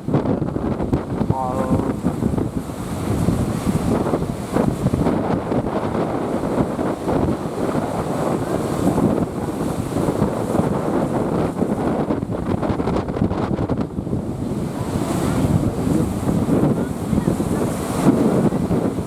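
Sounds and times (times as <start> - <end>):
waves washing: 0.0 - 19.0
wind rushing over microphone: 0.0 - 19.0.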